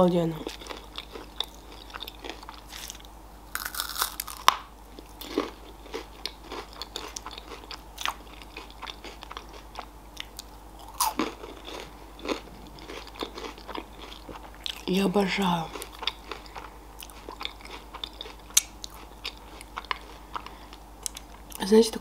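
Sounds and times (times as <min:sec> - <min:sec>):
chewing crunchy candy: 0:00.4 - 0:14.9, 0:15.6 - 0:21.6.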